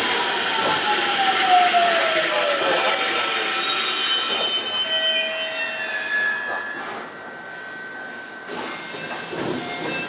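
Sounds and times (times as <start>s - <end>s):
train brakes squealing: 0.5s - 10.0s.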